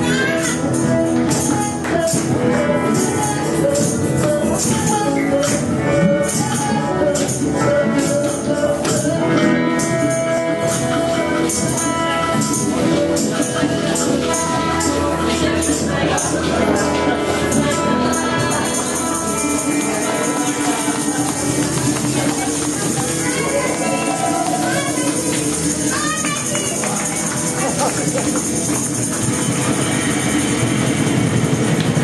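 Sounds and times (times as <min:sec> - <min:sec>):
electronic keyboard chords: 0:00.0 - 0:32.0
tambourine beat: 0:00.0 - 0:32.0.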